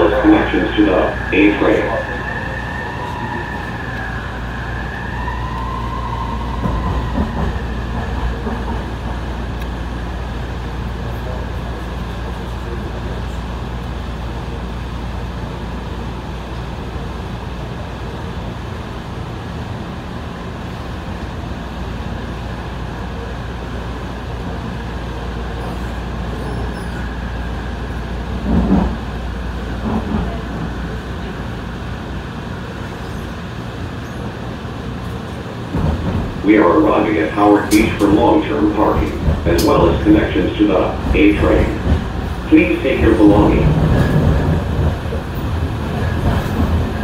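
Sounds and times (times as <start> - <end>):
train rumble and hum: 0.0 - 47.0.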